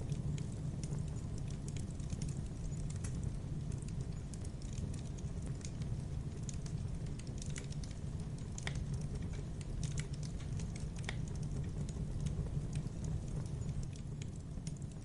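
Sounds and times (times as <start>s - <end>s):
burning wood crackling and popping: 0.0s - 15.0s
campfire flames rumbling: 0.0s - 15.0s.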